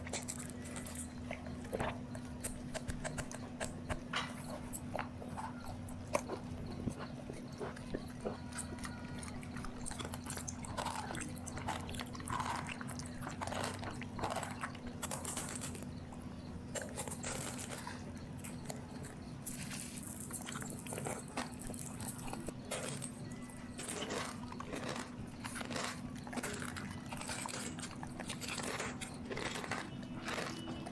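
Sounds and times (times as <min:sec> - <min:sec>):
dog chewing food: 0:00.0 - 0:30.9
steady low hum: 0:00.0 - 0:30.9.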